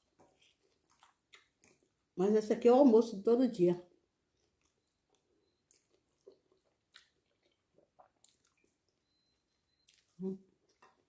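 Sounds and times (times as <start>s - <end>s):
person chewing: 0.0s - 2.1s, 4.2s - 11.0s.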